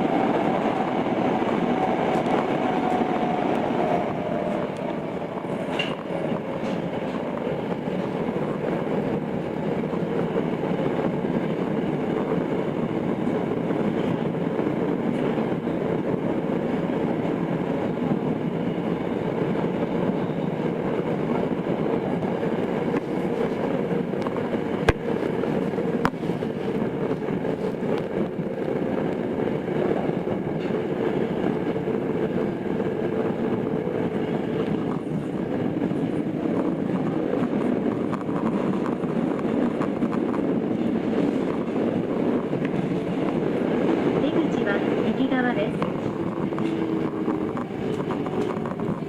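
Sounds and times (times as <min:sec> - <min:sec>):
subway train rumble: 0:00.0 - 0:49.0.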